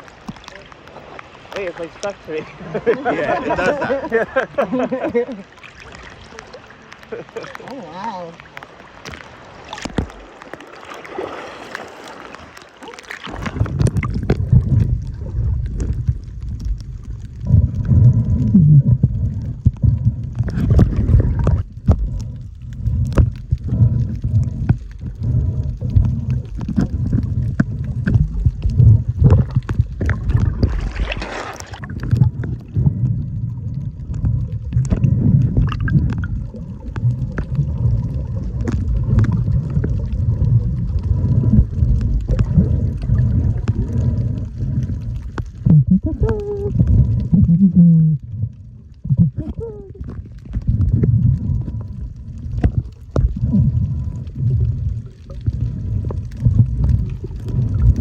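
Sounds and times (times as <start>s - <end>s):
sharp clicks and crackles: 0.0s - 2.1s, 8.4s - 10.8s, 11.7s - 58.0s
muffled underwater gurgling: 0.0s - 58.0s.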